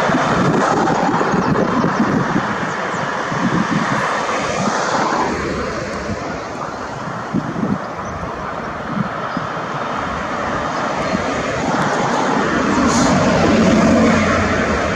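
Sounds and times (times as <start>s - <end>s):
jet engines roaring: 0.0s - 14.9s.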